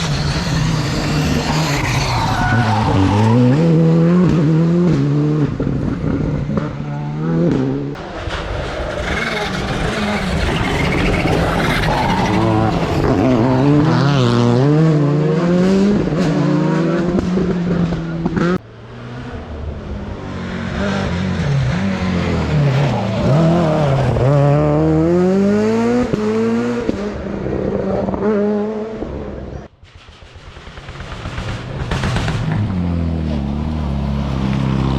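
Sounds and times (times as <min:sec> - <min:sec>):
rally car engines revving: 0:00.0 - 0:29.7.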